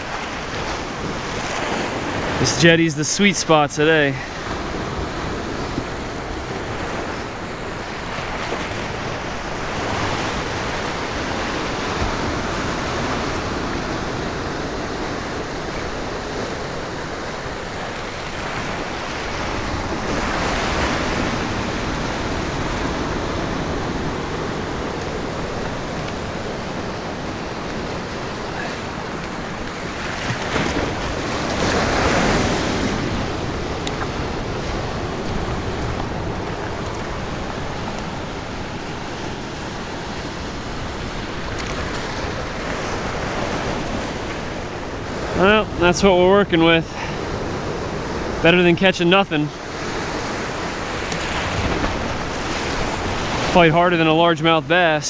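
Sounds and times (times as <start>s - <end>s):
ocean surf breaking on rocks: 0.0s - 55.0s.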